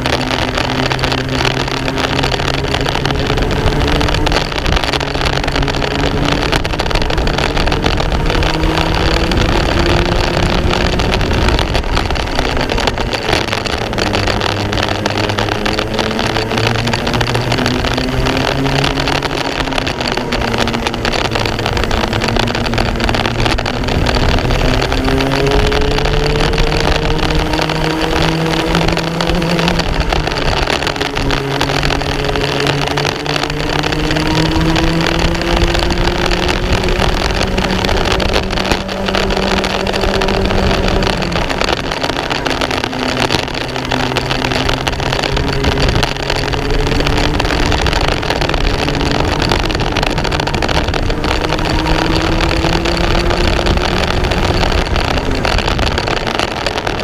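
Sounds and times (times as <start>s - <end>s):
kart engine accelerating: 0.0s - 57.0s
wind and track noise: 0.0s - 57.0s.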